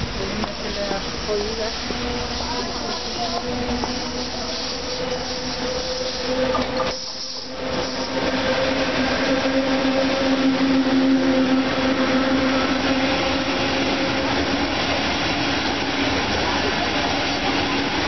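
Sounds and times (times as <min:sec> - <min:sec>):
electric locomotive hum: 0:00.0 - 0:18.0
train wheels rolling on rails: 0:00.0 - 0:18.0.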